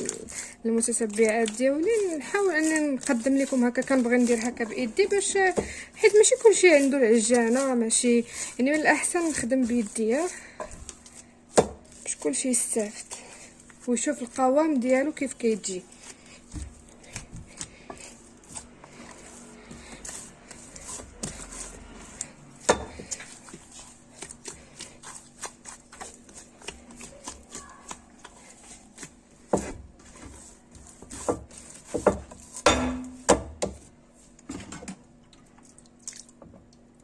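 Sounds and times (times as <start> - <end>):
dough kneaded by hand: 0.0 - 34.5.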